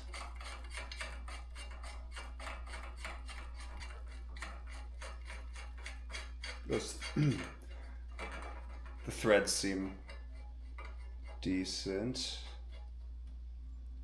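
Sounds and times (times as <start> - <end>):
light metal clicks and scrapes: 0.0 - 13.4.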